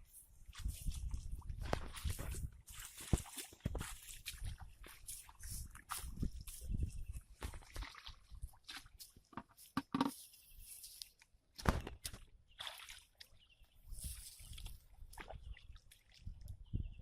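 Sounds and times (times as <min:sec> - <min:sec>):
pond water sloshing and splashing: 0:00.0 - 0:16.7.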